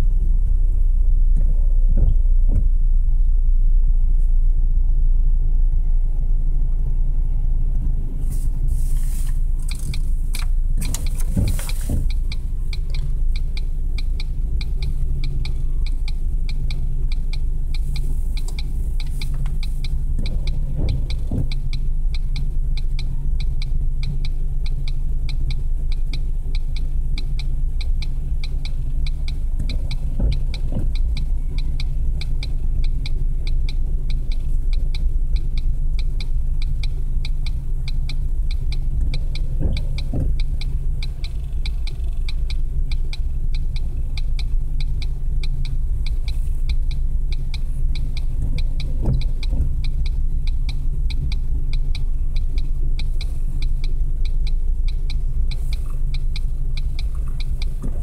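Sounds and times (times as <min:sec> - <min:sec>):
rapid even ticking: 0:09.5 - 0:58.0.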